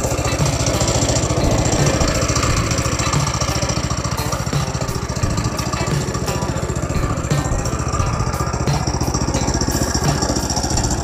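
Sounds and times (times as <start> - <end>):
go-kart engine idling: 0.0 - 11.0.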